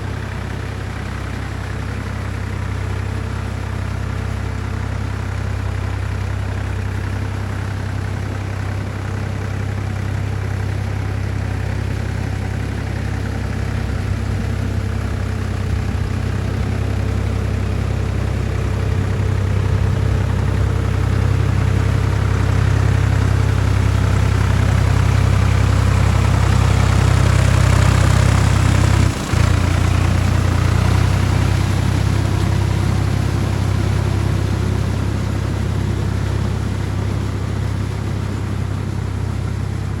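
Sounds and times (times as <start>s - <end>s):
tractor diesel engine humming: 0.0s - 40.0s.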